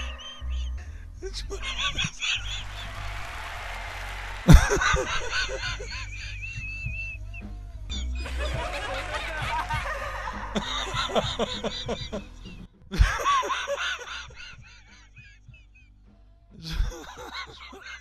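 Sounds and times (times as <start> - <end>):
man laughing hard: 0.0 - 3.3, 4.5 - 7.1, 7.9 - 15.8, 16.6 - 18.0
low music: 0.0 - 18.0.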